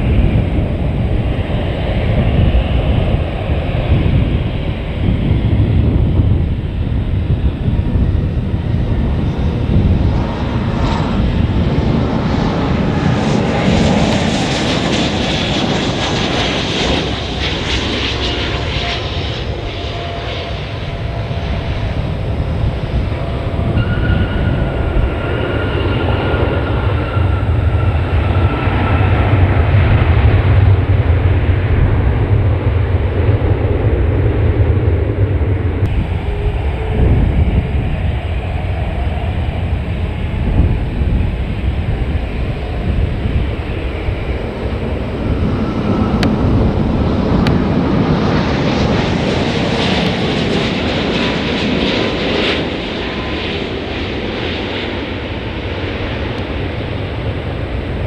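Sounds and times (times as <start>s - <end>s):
deep rumble: 0.0s - 52.1s
jet airliner engine roar: 0.0s - 58.0s
turbine whine: 0.0s - 58.0s.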